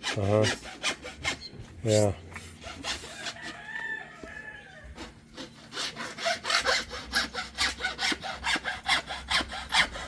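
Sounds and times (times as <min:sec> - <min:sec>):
hand tool scraping wood: 0:00.0 - 0:03.6, 0:04.9 - 0:10.0.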